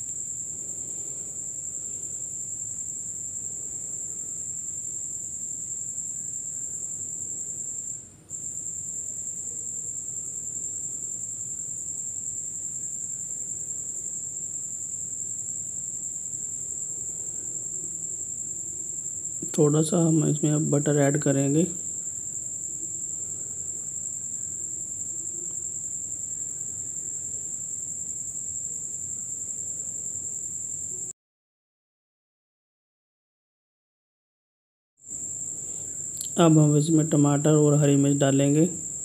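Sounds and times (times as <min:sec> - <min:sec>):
low hiss: 0:00.0 - 0:27.7, 0:35.1 - 0:39.0.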